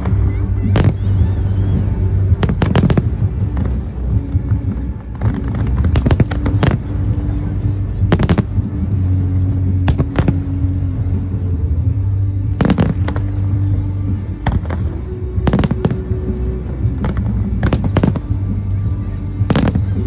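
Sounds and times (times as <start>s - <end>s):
fireworks bursting: 0.0s - 20.0s
music with low held notes: 0.0s - 20.0s.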